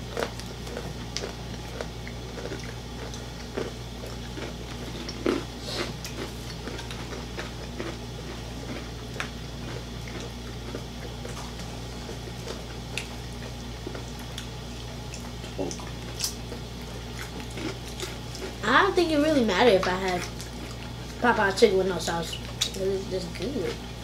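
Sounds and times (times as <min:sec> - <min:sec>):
chewing: 0:00.0 - 0:18.7, 0:19.4 - 0:24.0.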